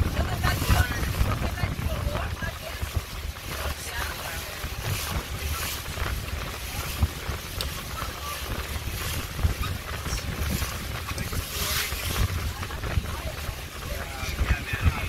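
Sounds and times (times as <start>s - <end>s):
boat motor rumble: 0.0s - 15.0s
water rushing past hull: 0.0s - 15.0s
wind buffeting microphone: 0.0s - 15.0s.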